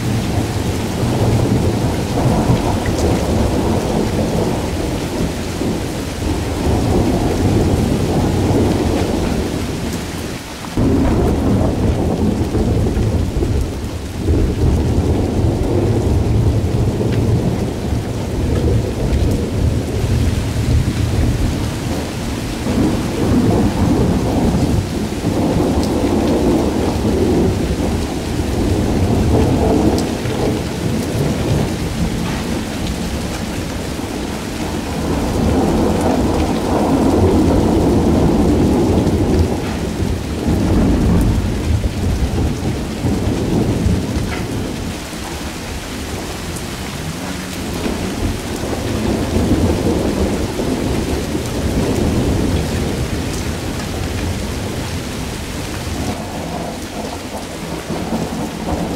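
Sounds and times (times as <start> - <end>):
rain hissing: 0.0 - 58.9
thunder rumbling: 0.0 - 58.9.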